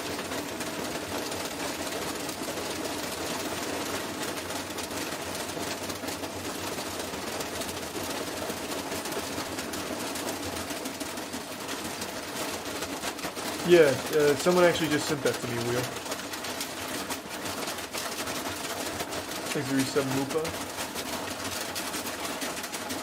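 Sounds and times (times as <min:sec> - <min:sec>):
washing machine clattering: 0:00.0 - 0:23.0.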